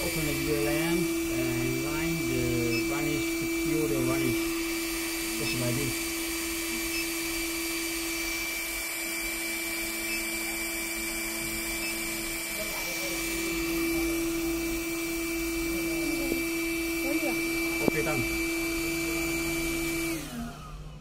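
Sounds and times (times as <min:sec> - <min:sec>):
printer mechanical hum: 0:00.0 - 0:21.0.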